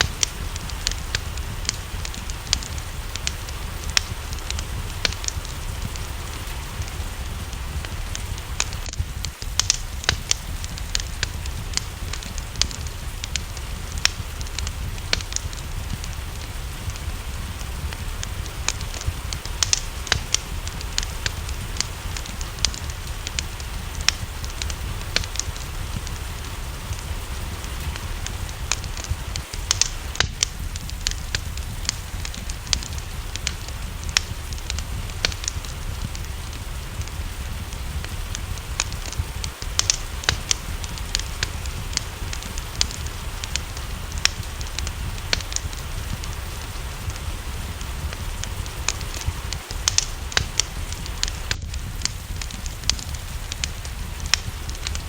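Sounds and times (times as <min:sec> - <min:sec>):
rain hissing: 0:00.0 - 0:55.0
wood fire crackling and popping: 0:00.0 - 0:55.0.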